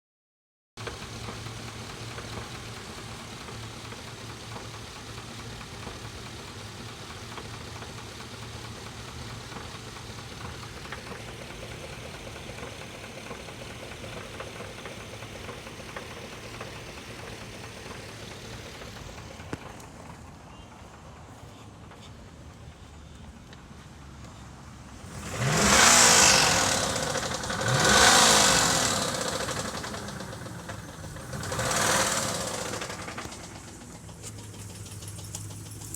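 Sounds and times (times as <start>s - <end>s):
engine idling with knock: 0.8s - 24.0s, 24.9s - 35.9s.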